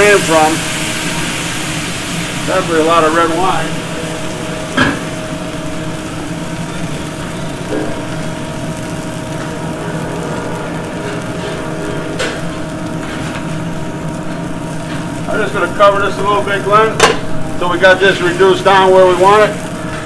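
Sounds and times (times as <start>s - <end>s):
constant hum: 0.0s - 20.0s
exhaust hood fan: 0.0s - 20.0s
gas burners running: 0.0s - 20.0s.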